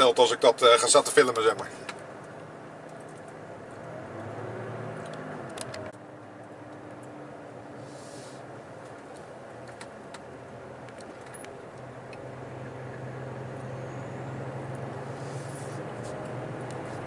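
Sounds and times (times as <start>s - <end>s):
road noise: 0.0s - 17.0s
truck engine: 0.0s - 17.0s.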